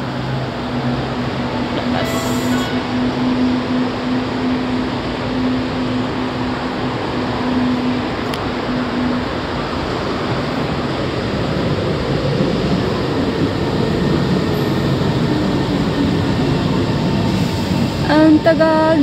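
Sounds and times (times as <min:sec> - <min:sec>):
metro train pulling in: 0:00.0 - 0:19.0.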